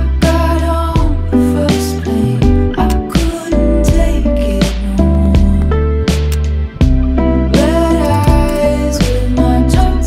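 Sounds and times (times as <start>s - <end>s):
indie pop song with guitar: 0.0s - 10.0s.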